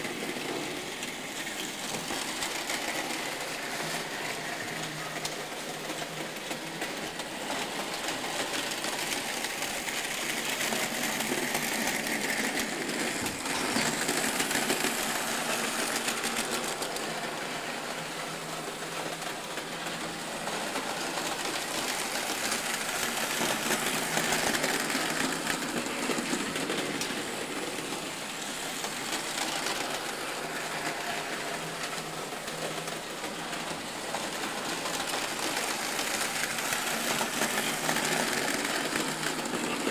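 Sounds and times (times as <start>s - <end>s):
model train wheels clattering: 0.0s - 39.9s.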